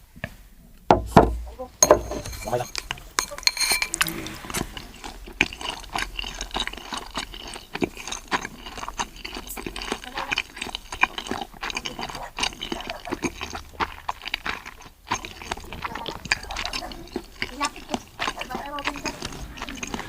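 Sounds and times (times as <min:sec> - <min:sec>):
seafood being chewed and crunched: 0:01.8 - 0:20.0
mouth clicks and smacks: 0:01.9 - 0:20.0.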